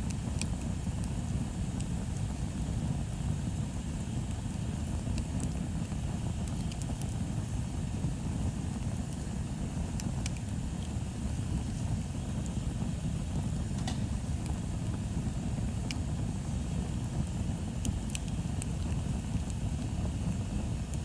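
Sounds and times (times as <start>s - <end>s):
bonfire rumbling: 0.0s - 21.0s
burning wood crackling and popping: 0.0s - 21.0s.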